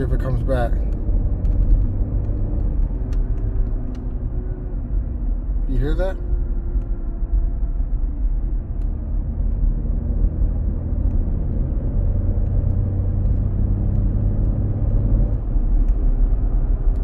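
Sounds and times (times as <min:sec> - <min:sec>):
car engine rumble from cabin: 0:00.0 - 0:17.0.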